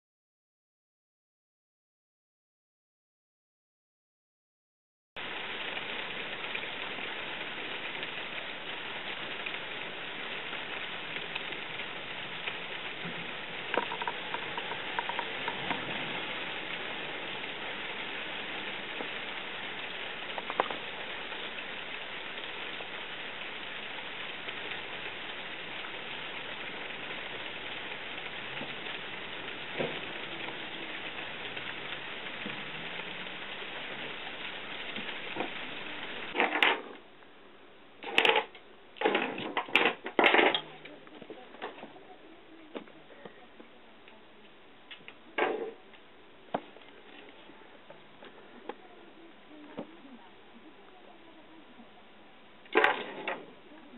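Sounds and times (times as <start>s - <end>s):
rain pattering: 5.2s - 53.9s.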